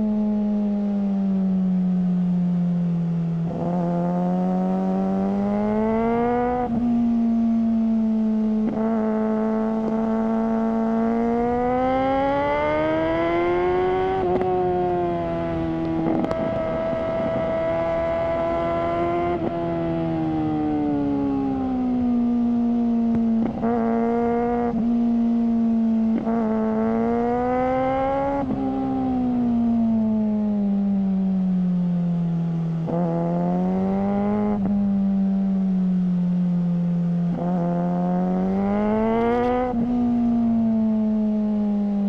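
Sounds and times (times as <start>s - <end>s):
motorcycle engine revving while riding: 0.0s - 42.0s.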